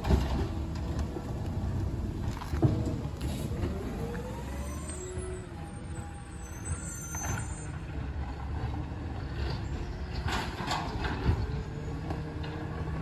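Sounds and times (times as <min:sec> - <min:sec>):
garbage truck engine rumble: 0:00.0 - 0:13.0.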